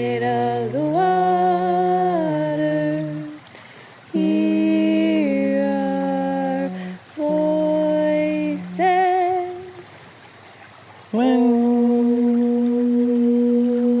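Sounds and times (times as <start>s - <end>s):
person singing unaccompanied chant: 0.0s - 3.5s, 4.1s - 9.9s, 11.1s - 14.0s.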